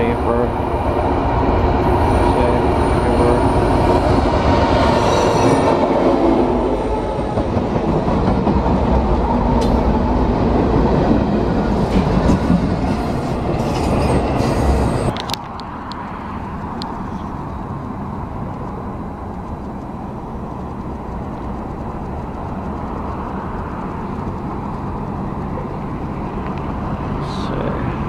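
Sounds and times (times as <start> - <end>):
freight train rumbling past: 0.0 - 19.3, 19.9 - 28.0.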